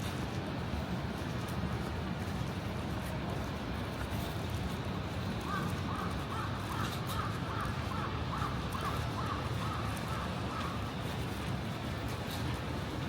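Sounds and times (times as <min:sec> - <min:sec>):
low city street rumble: 0:00.0 - 0:13.0.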